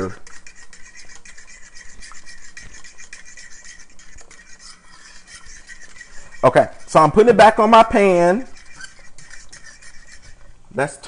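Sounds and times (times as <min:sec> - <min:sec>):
fork scraping metal saucepan: 0:00.0 - 0:11.0.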